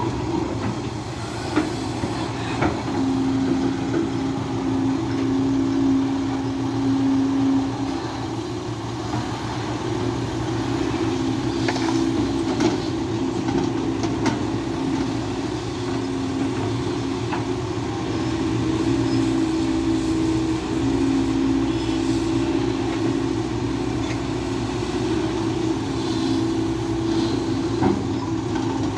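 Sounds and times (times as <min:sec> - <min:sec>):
excavator engine and hydraulics: 0:00.0 - 0:28.9.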